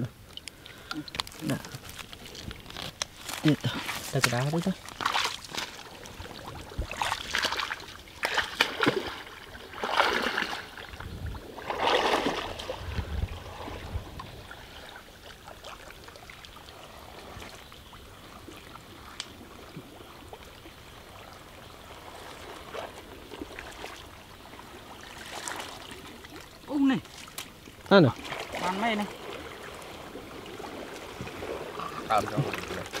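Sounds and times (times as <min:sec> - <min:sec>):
water trickling and small splashes: 0:00.0 - 0:33.0
person wading through water: 0:00.2 - 0:33.0.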